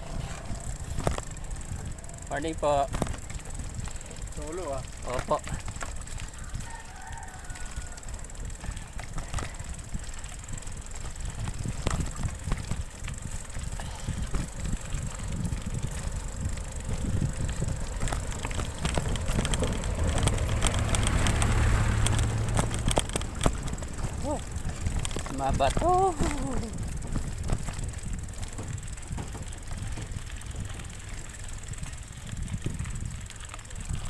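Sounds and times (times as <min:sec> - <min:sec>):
bike rattling over rocks: 0:00.0 - 0:34.0
wind on microphone: 0:00.0 - 0:34.0.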